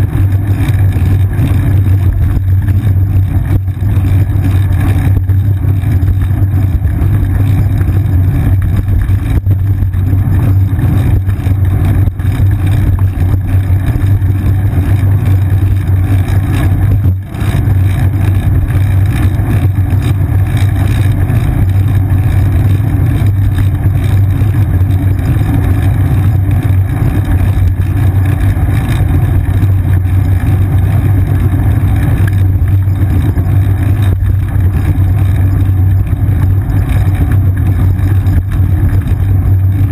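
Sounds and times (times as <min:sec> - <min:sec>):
bicycle road vibration: 0:00.0 - 0:39.9
wind rumble: 0:00.0 - 0:39.9.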